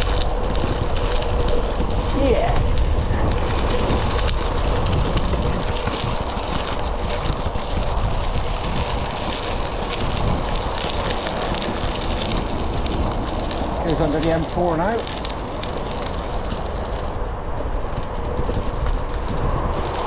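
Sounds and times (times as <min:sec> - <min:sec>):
bike tyres rolling on gravel: 0:00.0 - 0:20.0
wind buffeting microphone: 0:00.0 - 0:20.0.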